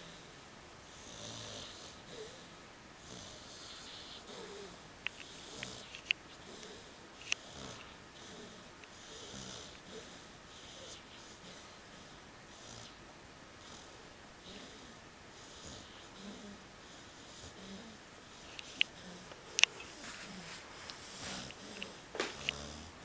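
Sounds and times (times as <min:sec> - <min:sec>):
dog snoring: 0:00.9 - 0:13.0, 0:13.6 - 0:23.0.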